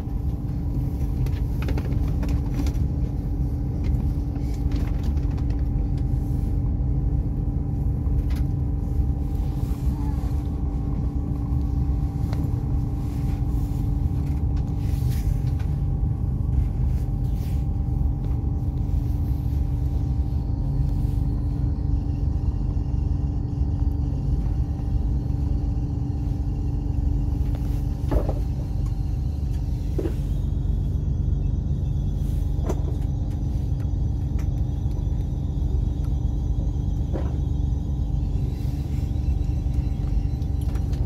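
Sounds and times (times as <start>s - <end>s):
constant hum: 0.0s - 41.0s
railcar interior rumble: 0.0s - 41.0s.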